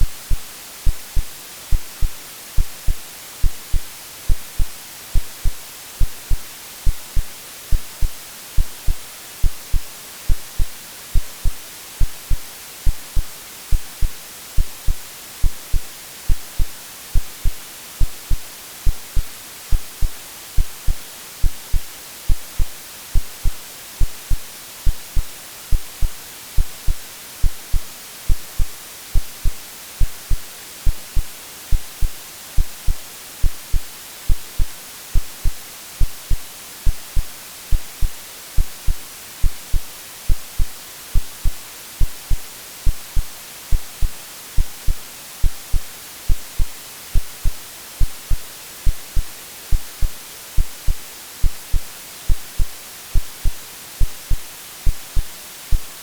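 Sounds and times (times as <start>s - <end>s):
synthetic heartbeat thumps: 0.0s - 55.9s
white noise hiss: 0.0s - 56.0s.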